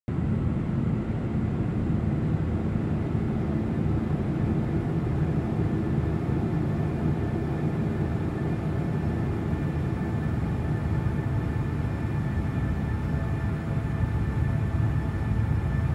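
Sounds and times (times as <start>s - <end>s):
low rumble drone: 0.1s - 15.9s.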